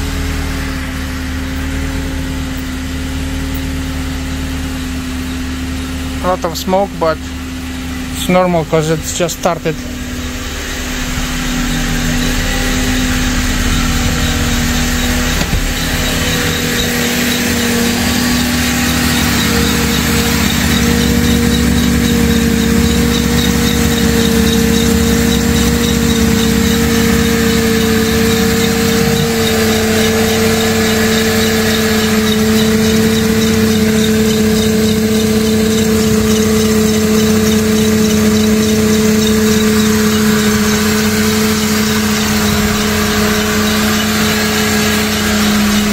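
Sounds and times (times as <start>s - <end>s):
car engine idling: 0.0s - 45.9s
steady whine: 0.0s - 45.9s.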